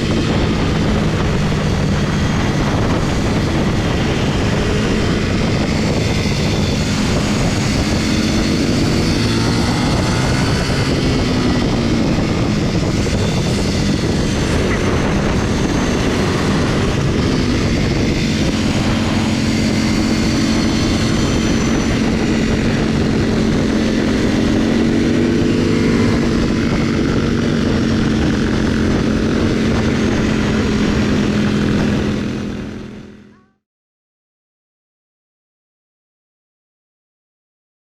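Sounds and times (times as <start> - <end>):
wind rushing over microphone: 0.0 - 33.3
motorcycle engine running: 0.0 - 33.6.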